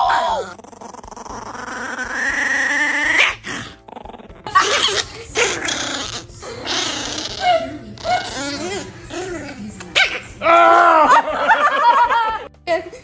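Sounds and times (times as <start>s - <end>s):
dog growling: 0.0s - 12.0s.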